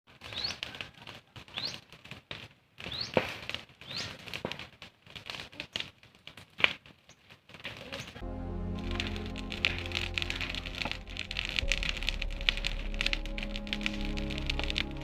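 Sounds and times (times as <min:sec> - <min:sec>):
campfire crackling and popping: 0:00.1 - 0:15.0.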